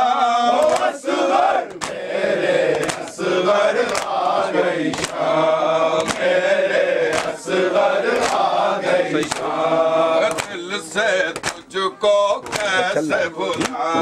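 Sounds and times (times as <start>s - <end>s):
men chanting a lament: 0.0s - 14.0s
rhythmic chest-beating strikes: 0.0s - 14.0s.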